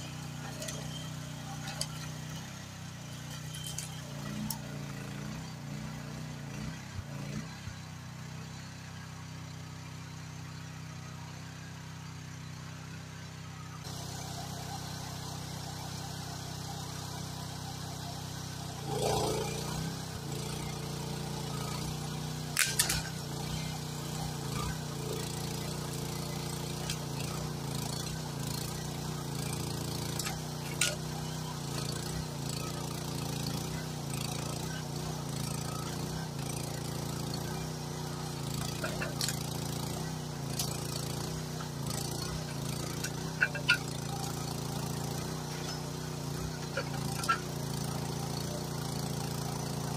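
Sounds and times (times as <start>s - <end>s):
excavator engine running: 0.0s - 8.4s, 11.8s - 49.9s.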